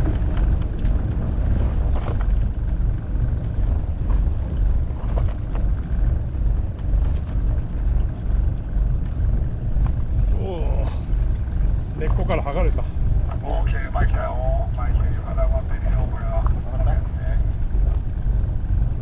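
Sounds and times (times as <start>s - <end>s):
boat low rumble: 0.0s - 19.0s.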